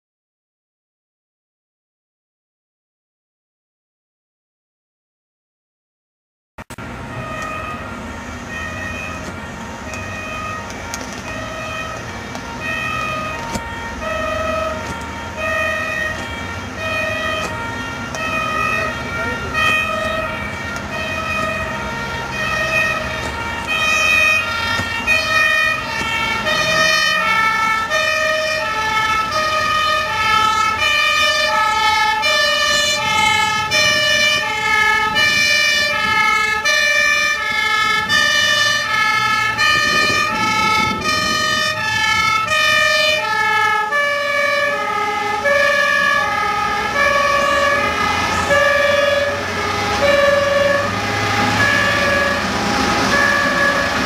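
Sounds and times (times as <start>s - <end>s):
fire engine two-tone siren: 6.7s - 54.0s
second siren: 6.7s - 54.0s.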